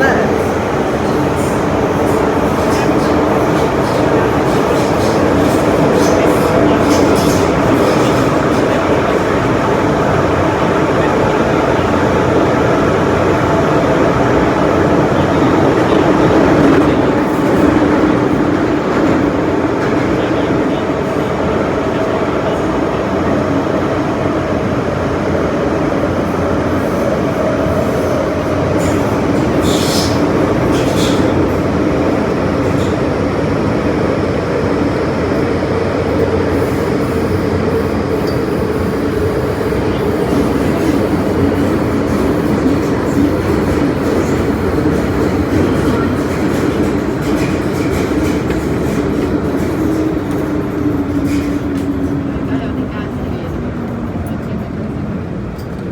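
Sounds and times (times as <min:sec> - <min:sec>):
electric train rumbling: 0:00.0 - 0:55.9.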